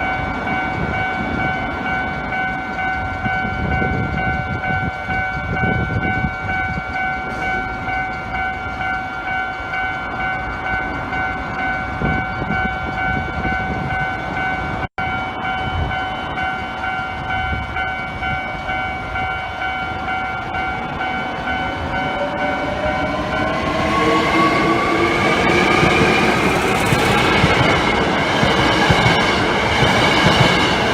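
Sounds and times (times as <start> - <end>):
level crossing alarm ringing: 0.0 - 30.9
train rumbling over rails: 0.0 - 30.9.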